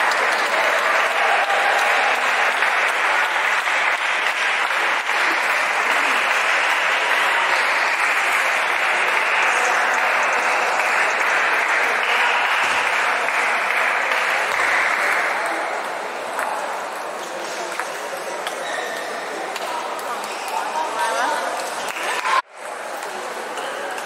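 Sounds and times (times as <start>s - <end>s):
busy hall din: 0.0s - 24.0s.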